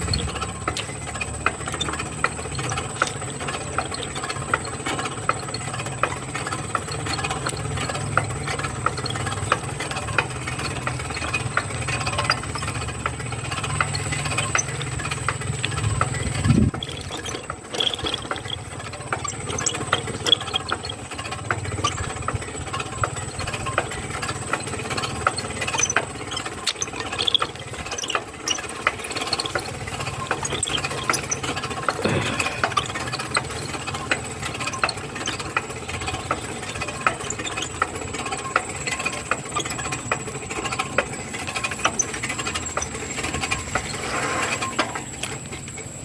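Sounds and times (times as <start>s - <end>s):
rattling and clicking: 0.0s - 46.0s
small engine running: 0.0s - 46.0s.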